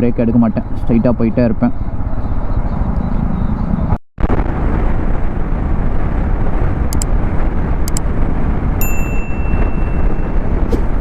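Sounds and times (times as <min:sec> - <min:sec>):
wind and road rush on motorcycle: 0:00.0 - 0:11.0.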